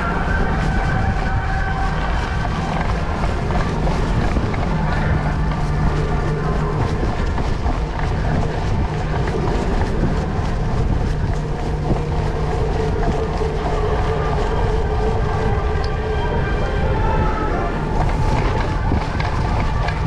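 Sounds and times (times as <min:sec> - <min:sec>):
bike rattling: 0:00.0 - 0:20.0
bike tyres rumbling: 0:00.0 - 0:20.0.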